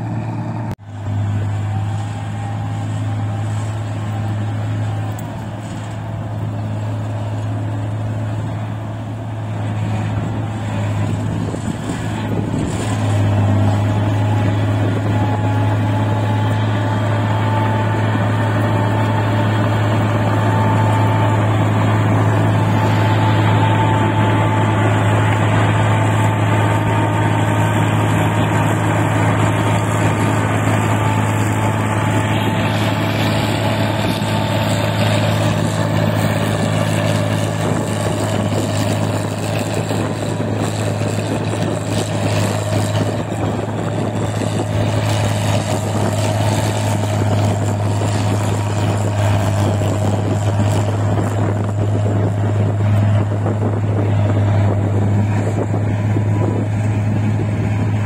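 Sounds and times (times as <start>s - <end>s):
combine harvester engine hum: 0.0s - 58.0s
high whine: 0.0s - 58.0s.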